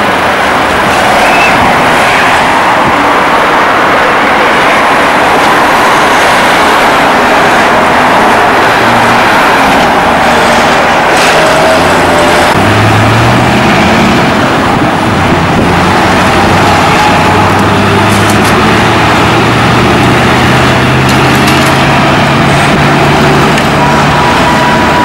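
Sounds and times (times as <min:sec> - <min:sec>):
cars and trolleybuses passing: 0:00.0 - 0:25.0.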